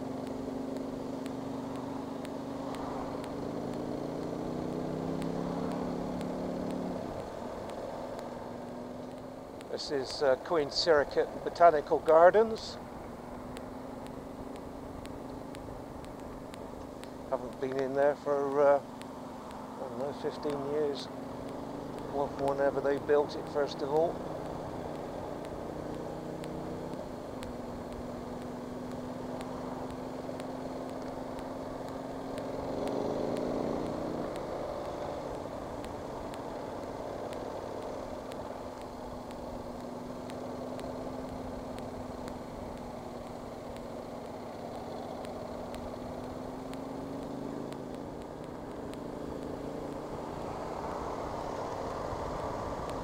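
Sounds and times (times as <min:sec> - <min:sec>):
motorcycle engine running: 0:00.0 - 0:53.0
wind and road noise: 0:00.0 - 0:53.0.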